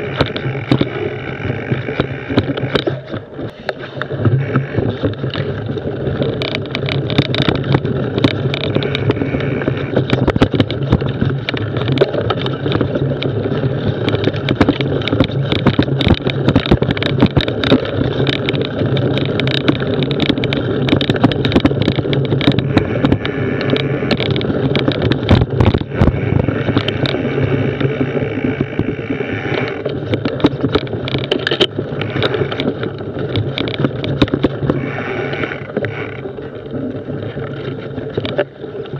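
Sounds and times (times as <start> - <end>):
bike knocks and rattles: 0.0 - 38.9
bike tyres rumbling on dirt: 0.0 - 38.9.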